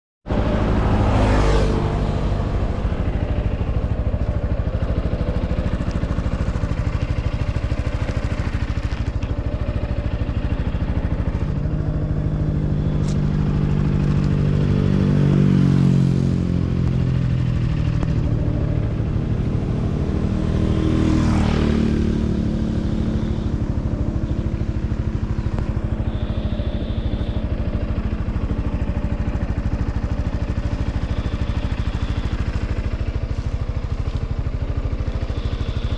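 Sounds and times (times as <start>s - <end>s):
scooter engine speeding up: 0.3s - 35.9s.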